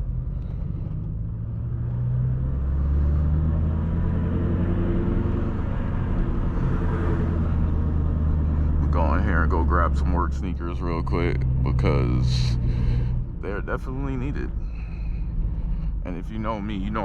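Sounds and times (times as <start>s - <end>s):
car engine running at low speed: 0.0s - 17.0s.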